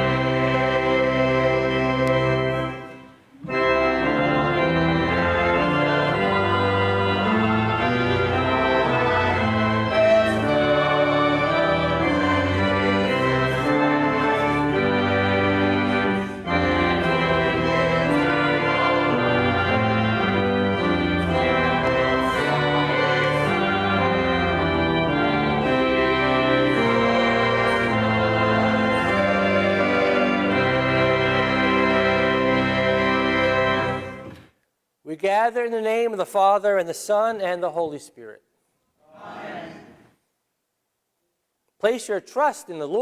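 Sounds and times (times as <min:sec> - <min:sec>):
church organ chords: 0:00.0 - 0:34.5.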